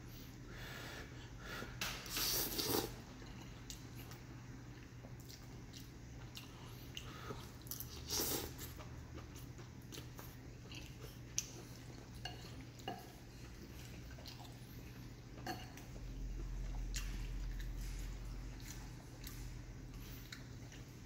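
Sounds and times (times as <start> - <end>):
steady low hum: 0.0 - 21.0
noodles slurped and chewed: 2.1 - 4.2, 4.8 - 21.0.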